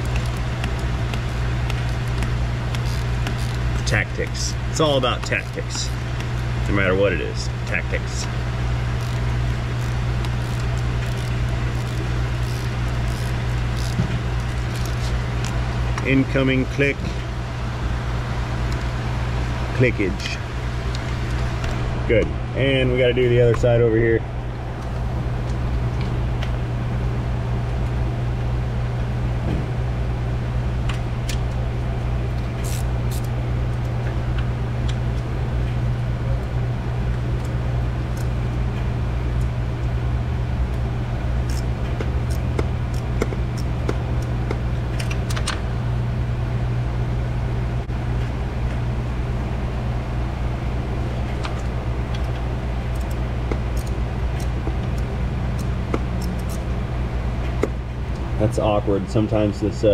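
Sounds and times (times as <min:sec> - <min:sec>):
shop machinery hum: 0:00.0 - 0:59.9.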